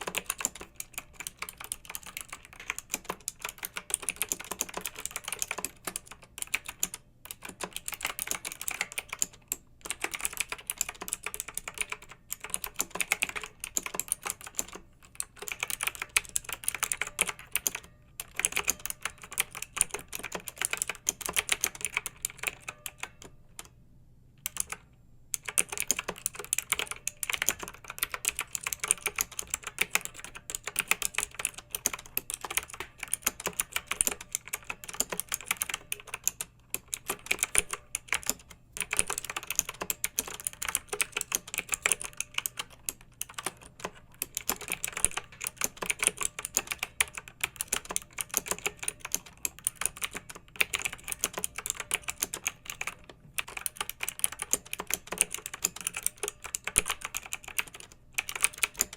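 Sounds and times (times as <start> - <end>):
mechanical keyboard typing: 0.0 - 23.8, 24.4 - 58.9.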